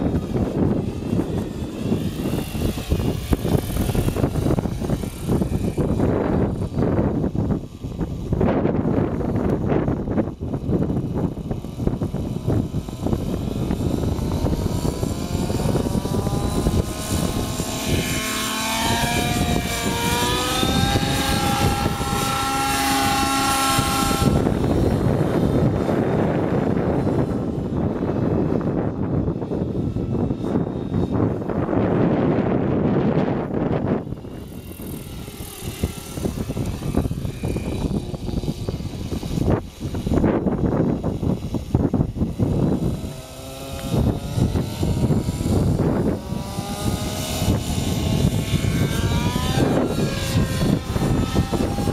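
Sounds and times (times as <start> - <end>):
rc helicopter engine and rotor: 0.0 - 51.9
wind noise on microphone: 0.0 - 51.9.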